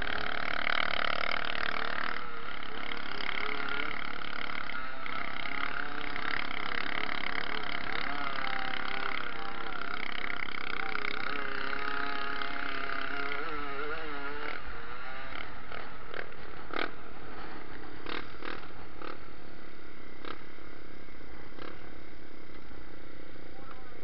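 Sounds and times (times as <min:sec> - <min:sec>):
small motorbike engine running: 0:00.0 - 0:24.0.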